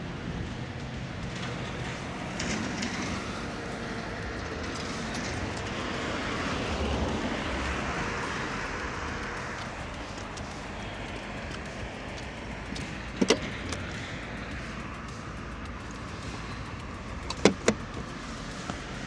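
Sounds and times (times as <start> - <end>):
vehicle road noise rushing: 0.0 - 19.0.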